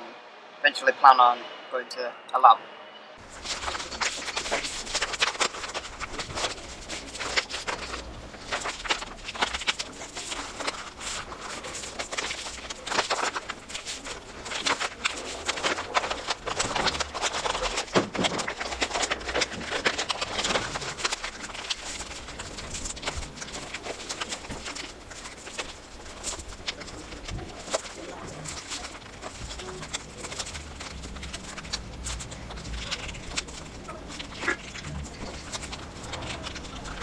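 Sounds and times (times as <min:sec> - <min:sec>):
paper crackling and rustling: 0:03.2 - 0:37.0.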